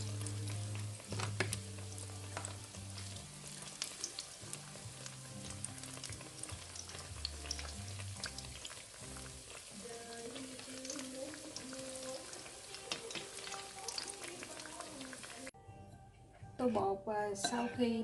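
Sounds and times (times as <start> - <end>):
food deep-frying in oil: 0.0 - 15.6
soft background music: 0.0 - 18.0.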